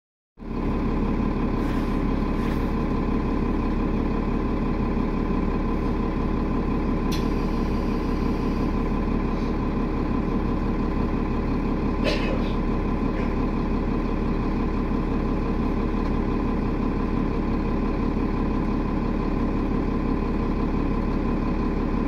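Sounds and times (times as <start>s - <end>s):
bus engine drone: 0.4s - 22.0s.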